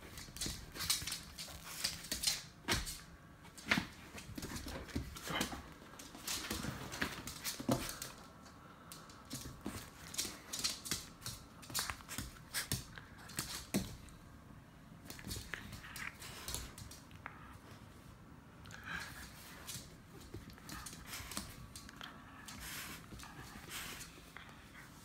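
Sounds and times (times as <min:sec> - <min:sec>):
dog claws clicking on floor: 0:00.0 - 0:14.2, 0:15.0 - 0:17.3, 0:19.0 - 0:24.2.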